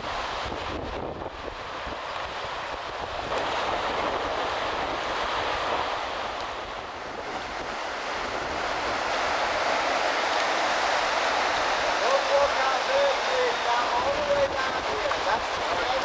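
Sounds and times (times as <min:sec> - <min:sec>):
surf on rocky shore: 0:00.0 - 0:16.0
wind: 0:00.0 - 0:16.0.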